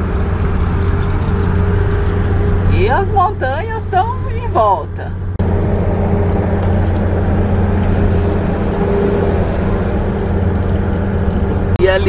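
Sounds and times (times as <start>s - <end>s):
bus engine droning: 0.0s - 12.0s
road noise: 0.0s - 12.0s.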